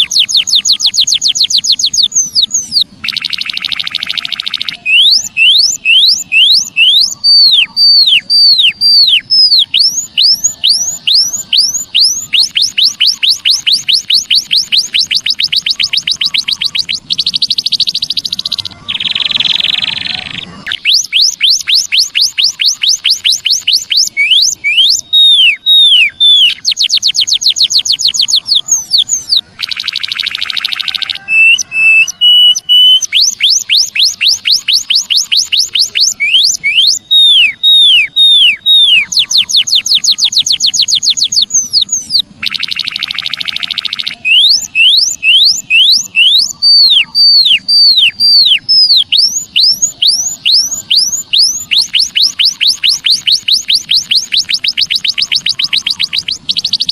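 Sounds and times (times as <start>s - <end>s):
bird whistles and trills: 0.0s - 56.9s
buzzy rasping bird call: 0.0s - 56.9s.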